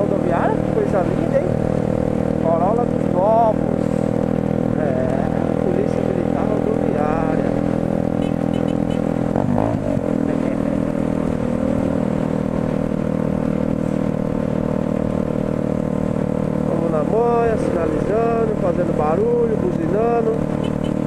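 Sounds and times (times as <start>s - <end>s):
motorcycle engine cruising: 0.0s - 21.0s
tyres on wet road: 0.0s - 21.0s.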